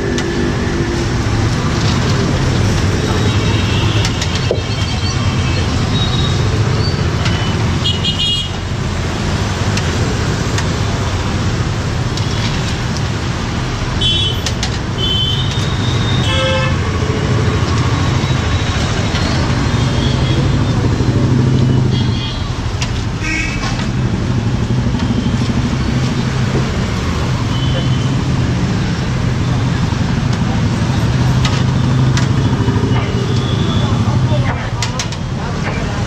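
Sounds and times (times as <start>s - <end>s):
street traffic rumble: 0.0s - 36.0s.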